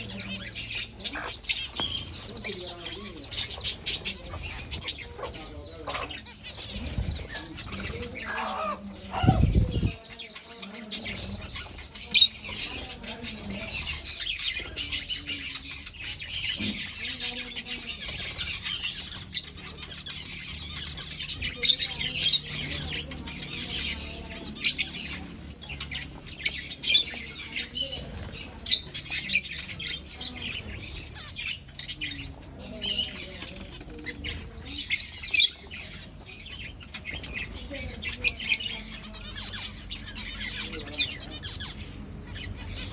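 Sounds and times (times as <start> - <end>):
finches chirping: 0.0 - 42.9.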